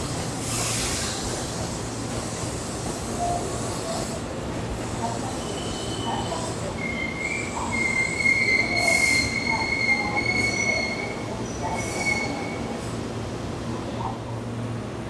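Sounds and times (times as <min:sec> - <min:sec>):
low rumble of train: 0:00.0 - 0:15.0
train wheels squealing on rails: 0:00.1 - 0:13.1.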